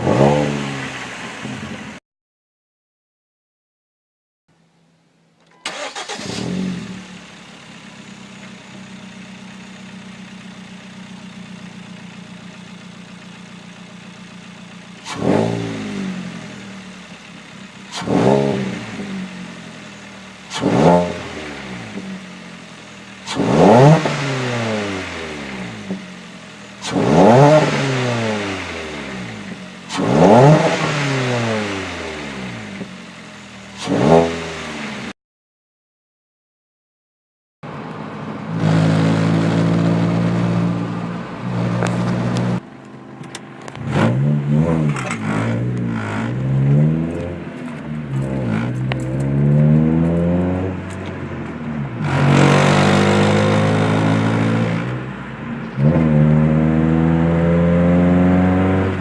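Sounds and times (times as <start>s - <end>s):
car engine starting and idling: 0.0s - 2.0s, 4.7s - 35.1s, 37.7s - 59.0s
engine revving: 0.0s - 2.0s, 5.6s - 35.2s, 38.1s - 59.0s.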